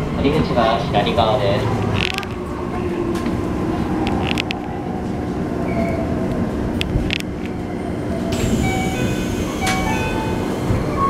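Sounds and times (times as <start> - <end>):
constant hum: 0.0 - 11.0
train rumbling: 0.0 - 11.0.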